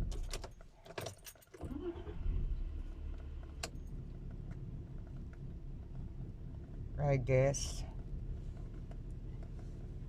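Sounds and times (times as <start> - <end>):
car engine idling: 1.7 - 10.0.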